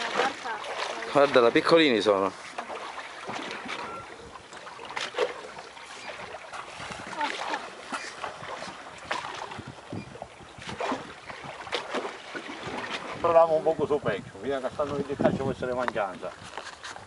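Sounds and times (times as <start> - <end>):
water splashing against boat hull: 0.0 - 17.0.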